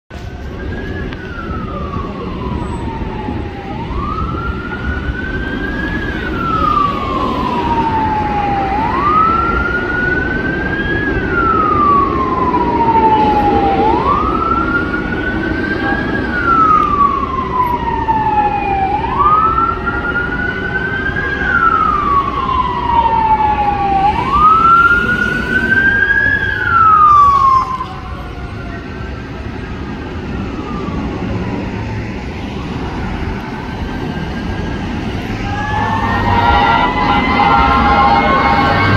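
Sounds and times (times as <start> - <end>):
fire engine siren wailing: 0.1 - 38.9
street traffic: 0.1 - 38.9.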